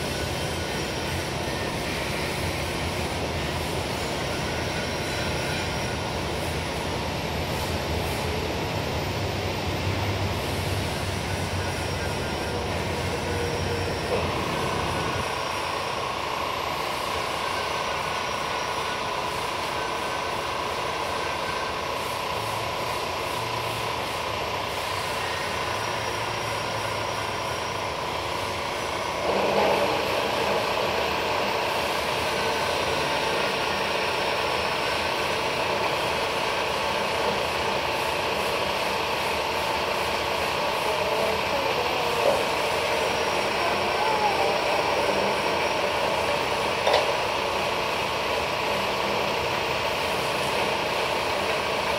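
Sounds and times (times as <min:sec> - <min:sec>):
band saw whining: 0:00.0 - 0:51.9.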